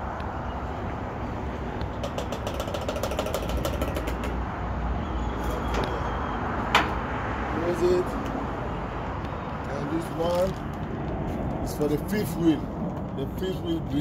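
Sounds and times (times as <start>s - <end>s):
vehicle engines rumbling: 0.0s - 14.0s.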